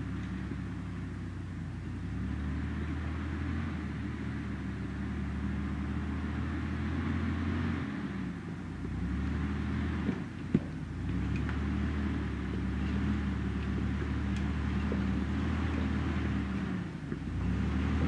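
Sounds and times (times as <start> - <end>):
truck engine at low revs: 0.0 - 18.0.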